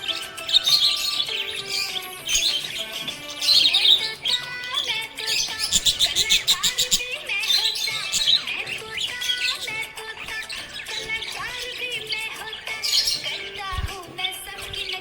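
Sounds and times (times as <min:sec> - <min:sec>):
background music: 0:00.0 - 0:15.0
budgerigar chirping: 0:00.0 - 0:15.0.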